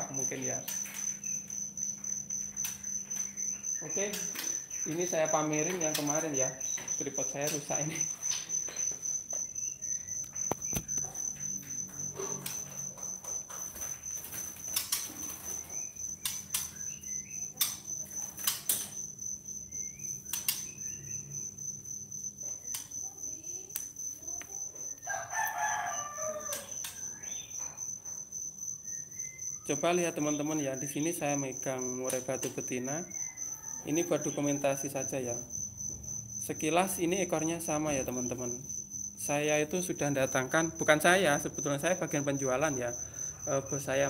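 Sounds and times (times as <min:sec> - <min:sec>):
cricket chirring: 0:00.0 - 0:44.0.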